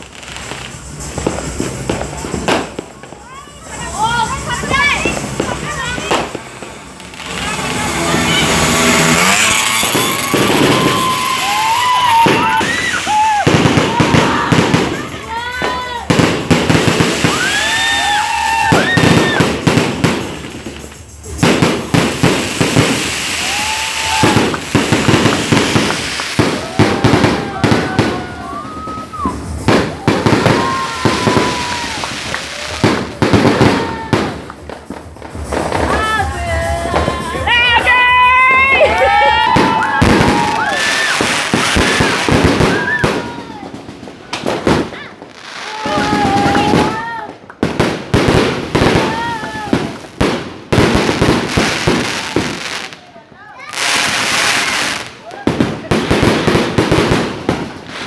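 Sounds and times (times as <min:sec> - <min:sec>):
fireworks crackling: 0:00.0 - 0:58.0
fireworks popping: 0:00.0 - 0:58.0
whistling fireworks: 0:00.0 - 0:58.0.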